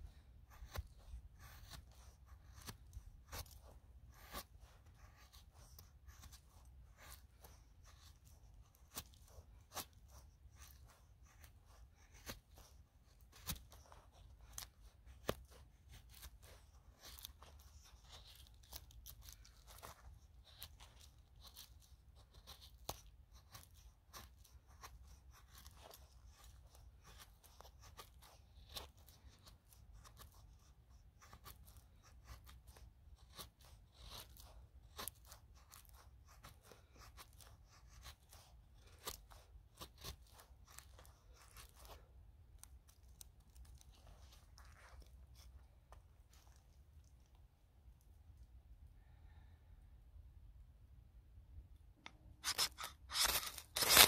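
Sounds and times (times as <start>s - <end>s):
knife scraping wood: 0.0s - 47.2s, 52.1s - 54.0s.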